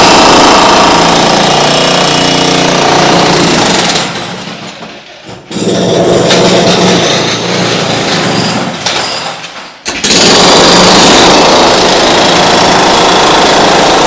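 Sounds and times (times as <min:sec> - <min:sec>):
demolition breaker hammering: 0:00.0 - 0:14.0.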